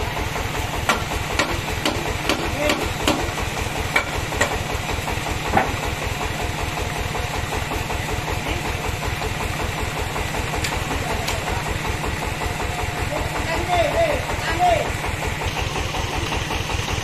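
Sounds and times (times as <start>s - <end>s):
band sawmill running: 0.0s - 17.0s.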